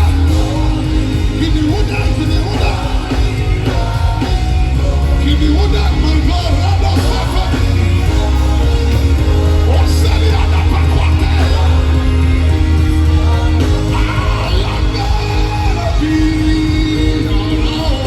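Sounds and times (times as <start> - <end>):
voices singing: 0.0 - 18.0
worship band music: 0.0 - 18.0.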